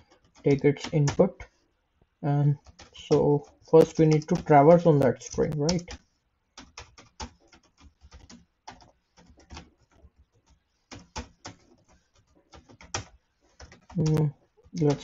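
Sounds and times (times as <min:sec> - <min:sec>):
keyboard typing: 0:00.0 - 0:01.4, 0:02.5 - 0:15.0.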